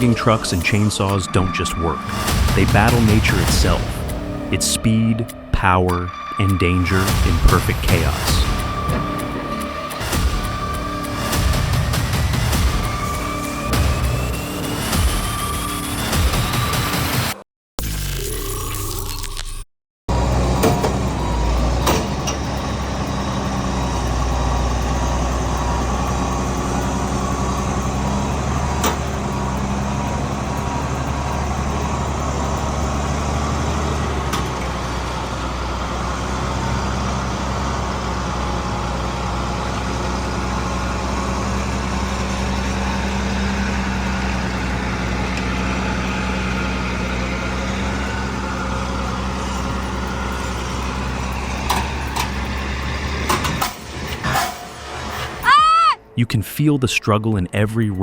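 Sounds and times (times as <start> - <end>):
truck engine humming: 0.0 - 17.4, 20.1 - 58.0.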